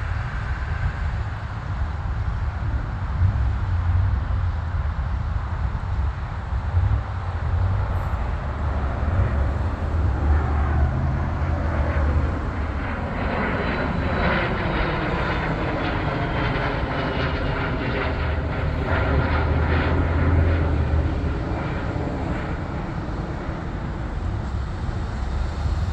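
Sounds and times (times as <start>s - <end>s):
jet engines rumbling overhead: 0.0s - 25.9s.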